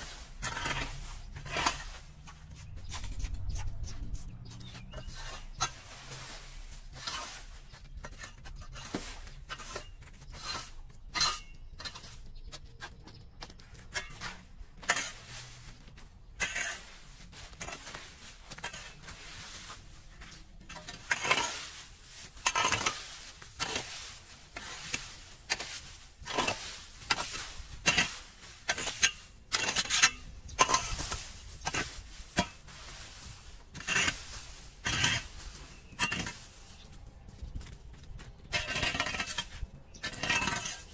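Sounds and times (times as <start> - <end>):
leaves raked on concrete: 0.0 - 12.3, 14.0 - 40.9.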